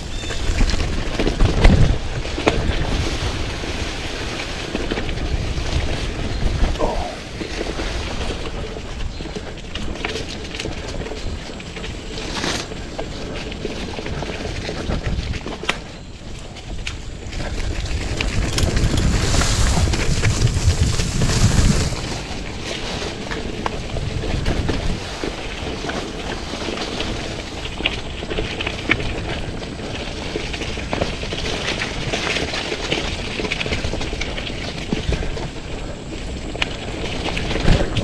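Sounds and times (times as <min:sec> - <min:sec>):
bike rolling on dirt: 0:00.0 - 0:38.0
wind buffeting microphone: 0:00.0 - 0:38.0.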